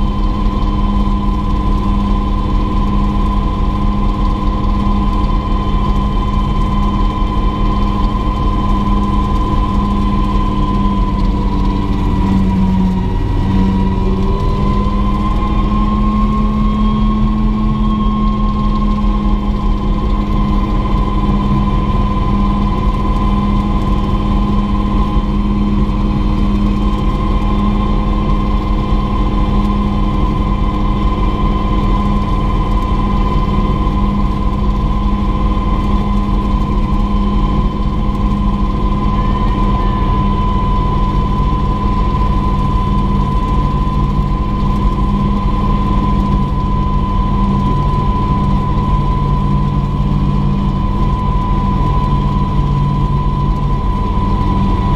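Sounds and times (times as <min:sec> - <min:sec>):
helicopter turbine engine whine: 0:00.0 - 0:54.9.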